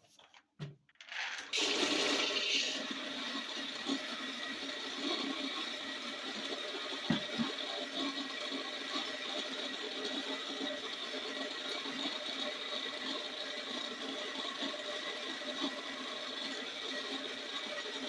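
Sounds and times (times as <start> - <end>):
electric grain mill grinding: 1.3 - 18.0.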